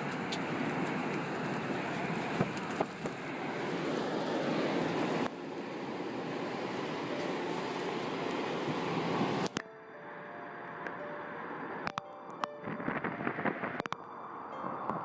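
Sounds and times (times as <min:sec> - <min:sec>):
storm wind and rain on microphone: 0:00.0 - 0:09.6, 0:10.7 - 0:15.0.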